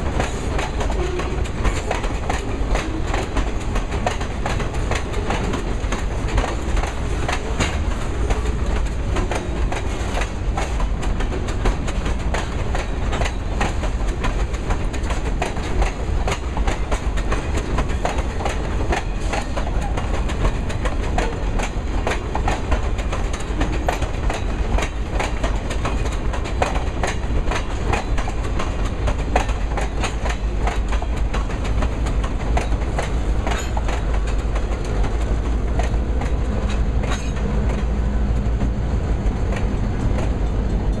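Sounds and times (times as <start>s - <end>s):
diesel locomotive engine hum: 0.0s - 41.0s.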